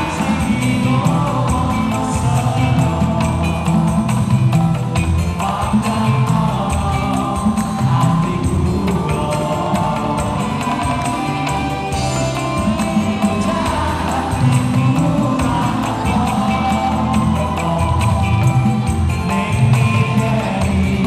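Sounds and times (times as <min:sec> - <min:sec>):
live band playing: 0:00.0 - 0:21.0
people singing along: 0:00.0 - 0:21.0.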